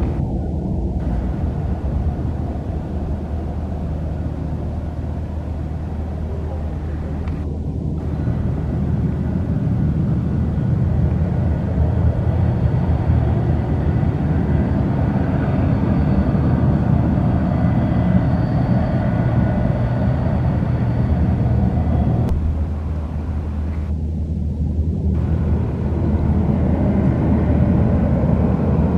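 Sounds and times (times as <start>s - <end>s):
faint high engine whine: 0.0s - 28.9s
jet engines low rumble: 0.0s - 28.9s.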